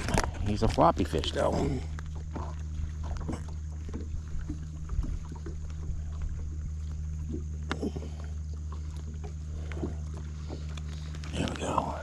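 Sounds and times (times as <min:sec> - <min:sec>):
knocks and clicks of fish handling: 0:00.0 - 0:00.8, 0:01.9 - 0:11.3
boat motor hum: 0:00.0 - 0:12.0.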